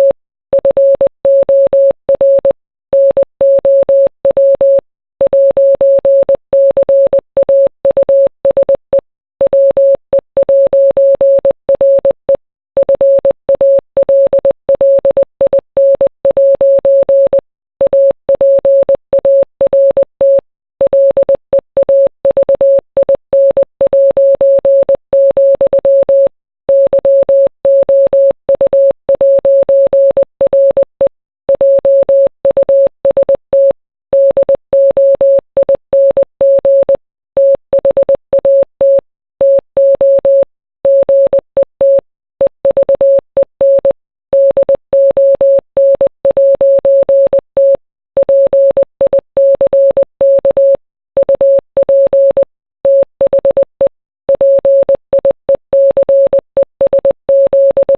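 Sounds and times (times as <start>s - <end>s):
morse code beeps: 0.0s - 57.9s.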